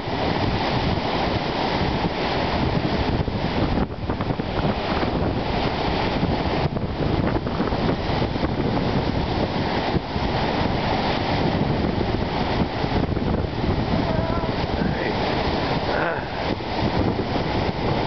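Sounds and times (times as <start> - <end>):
waves breaking on rocks: 0.0 - 18.0
wind buffeting microphone: 0.0 - 18.0.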